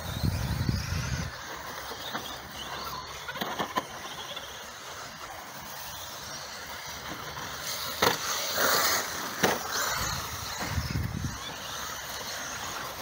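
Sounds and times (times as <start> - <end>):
model car tyres scrabbling: 0.0 - 13.0.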